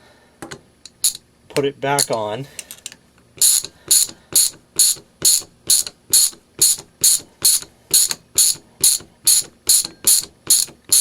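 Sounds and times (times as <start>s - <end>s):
ratcheting screwdriver clicking: 2.0s - 11.0s.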